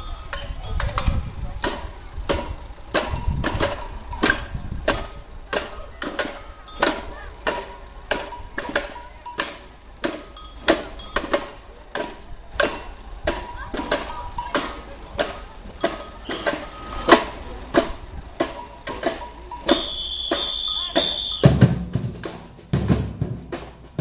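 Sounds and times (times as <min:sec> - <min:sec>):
bass drums and snare drums: 0:00.0 - 0:24.0.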